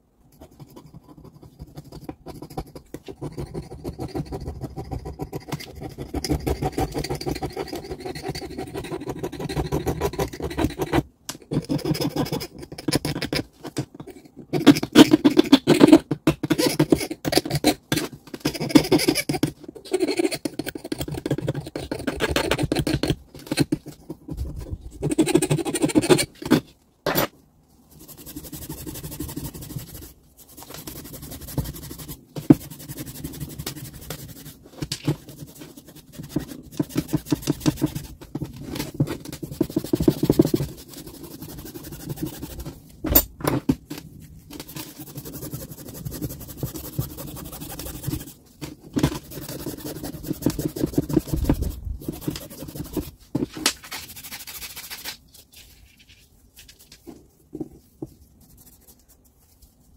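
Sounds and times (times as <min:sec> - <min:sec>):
scratching and scraping strokes: 0:00.3 - 0:43.0, 0:44.0 - 0:59.9.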